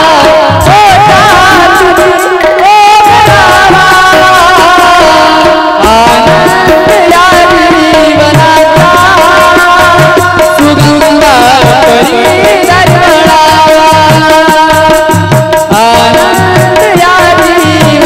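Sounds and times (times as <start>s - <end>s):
person singing devotional song: 0.0s - 18.0s
hand drum beat: 0.6s - 3.5s, 5.8s - 18.0s.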